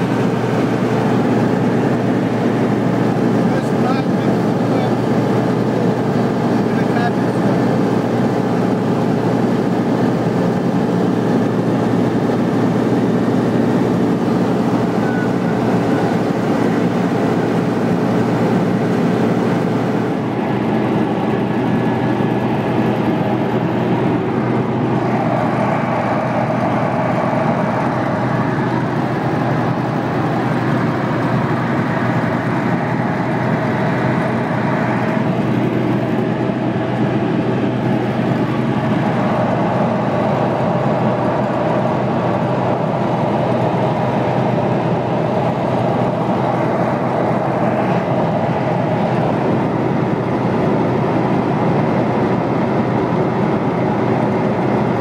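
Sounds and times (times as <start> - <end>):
aircraft engine drone in cabin: 0.0 - 55.0
higher hum: 0.0 - 55.0.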